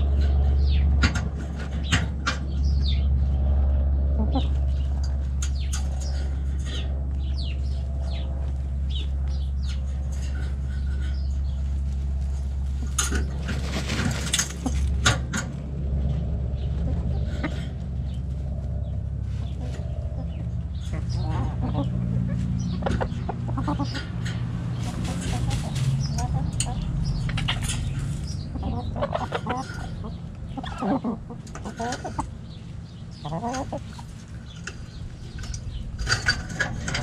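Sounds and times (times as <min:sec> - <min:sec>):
chickens scratching dry dirt: 0:00.0 - 0:37.0
steady low rumble: 0:00.0 - 0:37.0.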